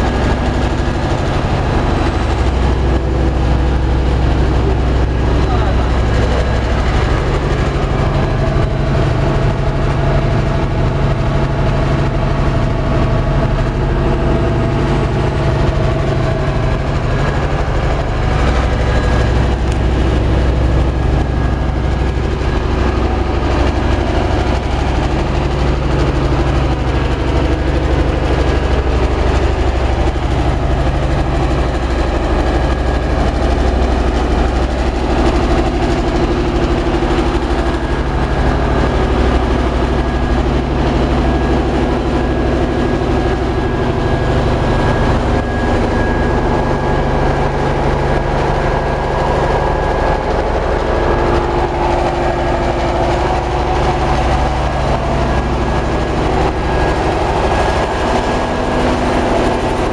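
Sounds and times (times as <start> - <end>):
large engine droning: 0.0 - 59.9.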